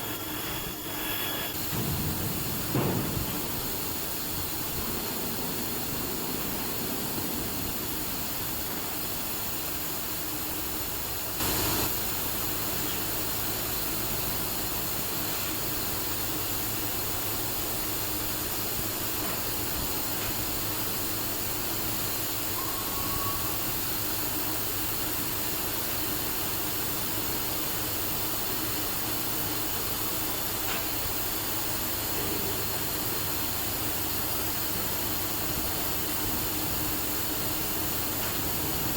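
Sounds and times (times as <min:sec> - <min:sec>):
machine hum and hiss: 0:00.0 - 0:38.9.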